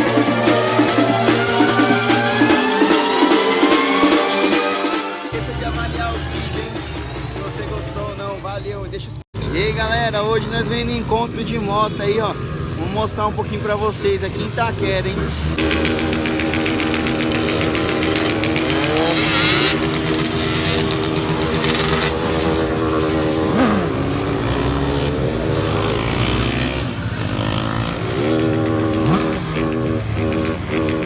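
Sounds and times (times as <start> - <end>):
motorcycle engines revving: 0.0 - 4.4, 5.3 - 31.0.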